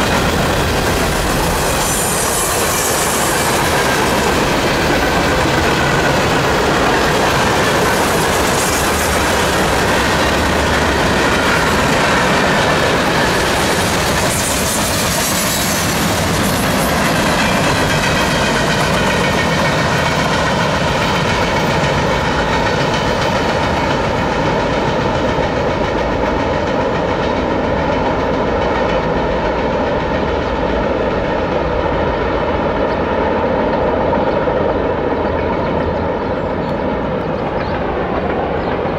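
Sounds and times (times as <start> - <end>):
freight train rumble and wheel clatter: 0.0 - 38.9.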